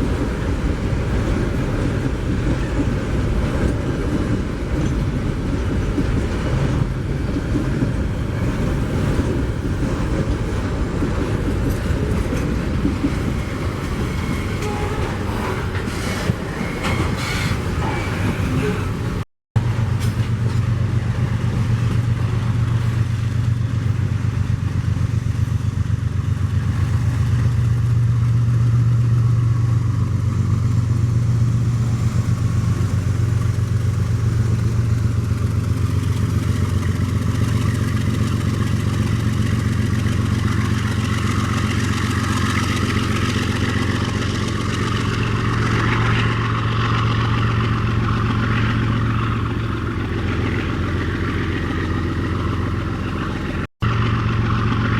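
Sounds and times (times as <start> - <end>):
diesel locomotive engine rumbling: 0.0 - 54.9.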